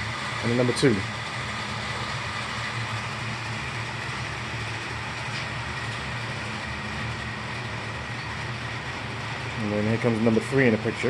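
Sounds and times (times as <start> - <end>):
model trains whirring on track: 0.0 - 11.0.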